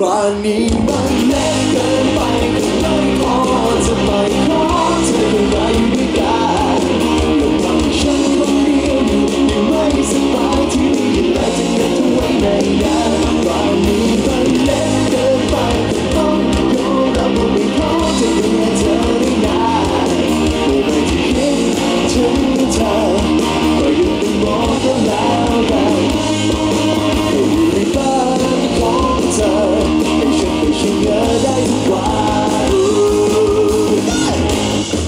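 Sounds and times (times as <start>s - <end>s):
man singing into a microphone: 0.0s - 34.5s
band low-end backing: 0.0s - 35.0s.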